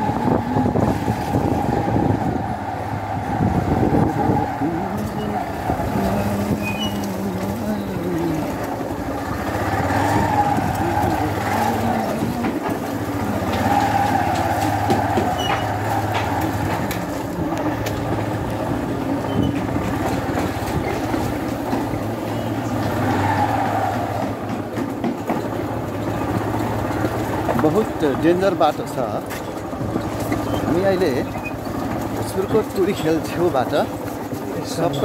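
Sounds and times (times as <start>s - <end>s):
motorcycle engine running: 3.4s - 23.1s, 24.3s - 35.0s.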